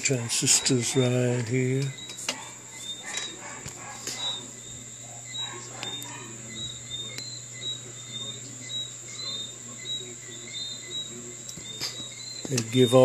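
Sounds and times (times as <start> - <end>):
insects chirping: 0.0 - 13.0
steady high whine: 0.0 - 13.0
steady low hum: 0.0 - 13.0.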